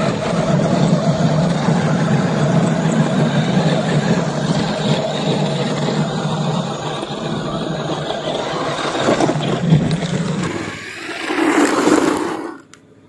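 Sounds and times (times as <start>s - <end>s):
toy car motor rumbling: 0.0s - 12.8s.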